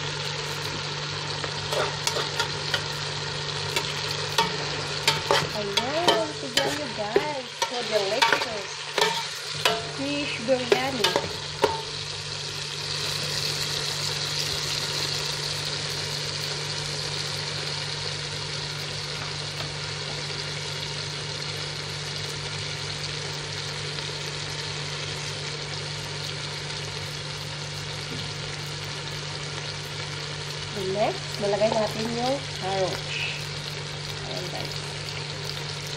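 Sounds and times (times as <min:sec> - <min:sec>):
food sizzling in a pot: 0:00.0 - 0:35.9.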